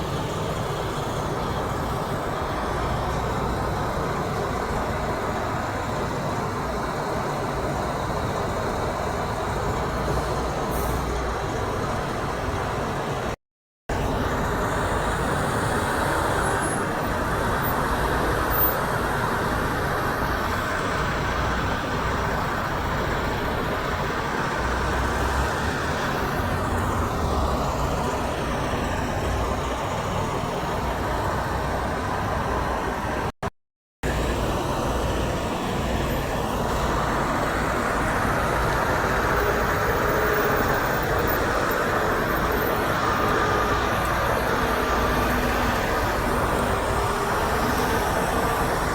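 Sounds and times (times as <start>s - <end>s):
highway traffic passing: 0.0s - 33.4s, 34.0s - 48.9s.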